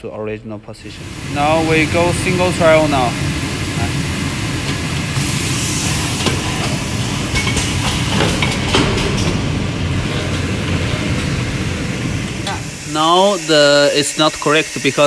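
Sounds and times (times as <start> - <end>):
machine rumbling: 0.8 - 14.9.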